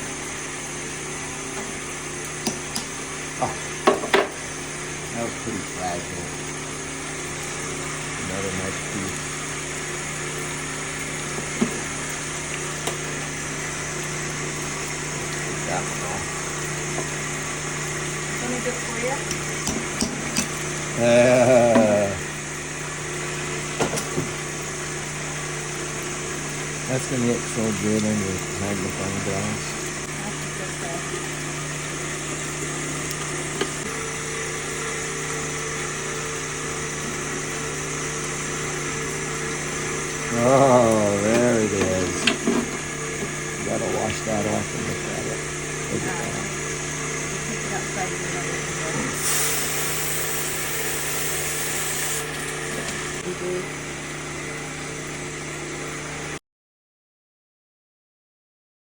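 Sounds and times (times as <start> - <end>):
rock saw motor humming: 0.0 - 56.4.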